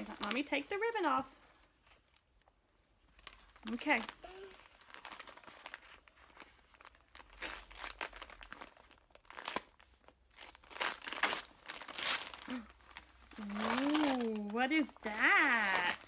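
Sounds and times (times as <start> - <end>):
wrapping paper tearing and rustling: 0.0 - 16.0.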